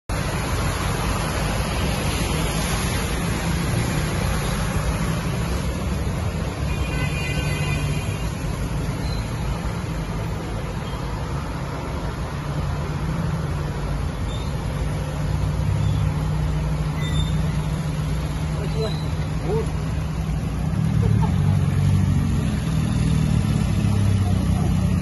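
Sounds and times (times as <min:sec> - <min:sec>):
engines rumbling: 0:00.1 - 0:25.0.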